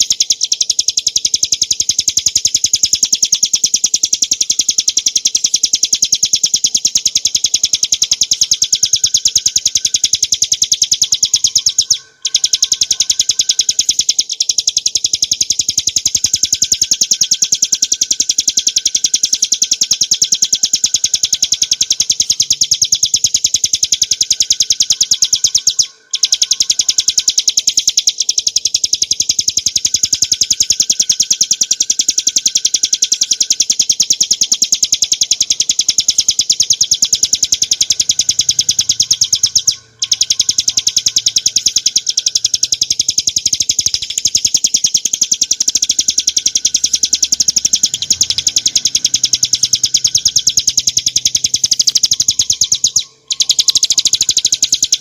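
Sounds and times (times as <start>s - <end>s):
bird singing rapid high trill: 0.0s - 55.0s.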